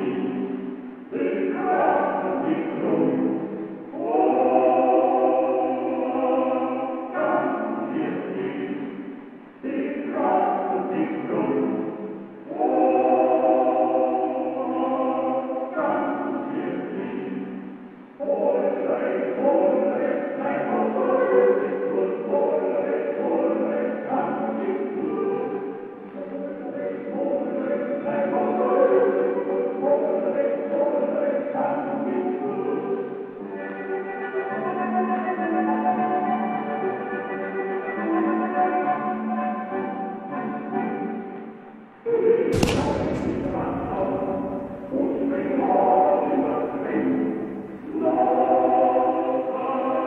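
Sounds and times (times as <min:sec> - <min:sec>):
choir singing held chords: 0:00.0 - 0:50.0.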